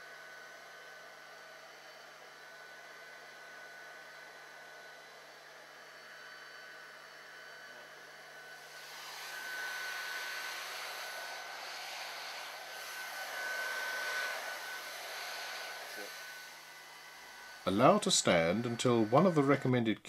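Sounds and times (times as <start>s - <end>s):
heat gun fan hiss and whine: 0.0s - 19.8s.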